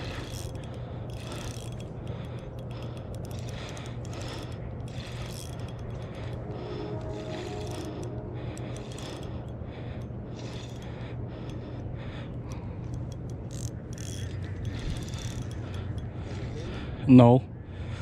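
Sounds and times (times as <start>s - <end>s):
fishing reel clicking and whirring: 0.0s - 17.0s.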